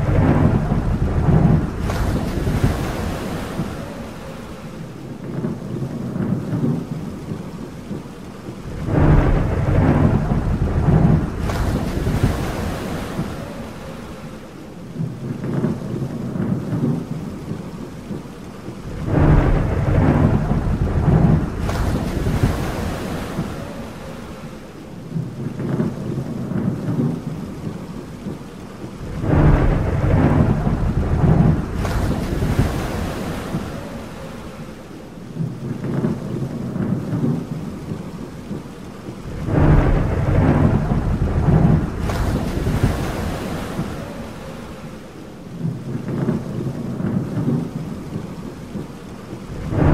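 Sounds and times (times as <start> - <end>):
steady rain: 0.0 - 49.9
thunder rumbling: 0.0 - 49.9.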